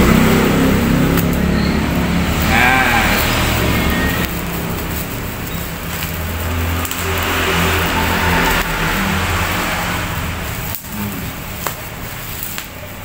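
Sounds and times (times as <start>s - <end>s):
low drone with hiss: 0.0s - 13.0s
bubble wrap crinkling: 0.3s - 13.0s.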